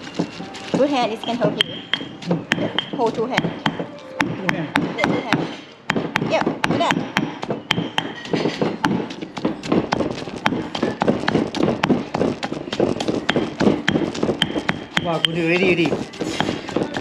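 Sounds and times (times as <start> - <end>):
pestle pounding in stone mortar: 0.0 - 17.0.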